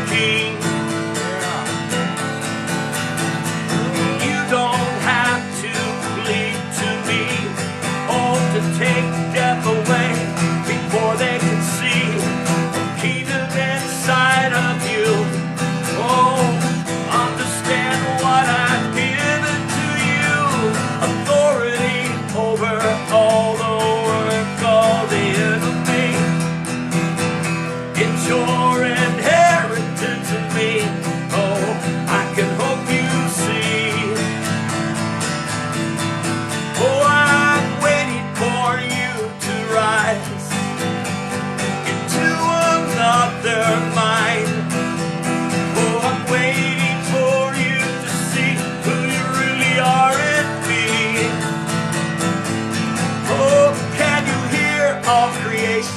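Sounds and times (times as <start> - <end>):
acoustic guitar worship music: 0.0 - 55.9.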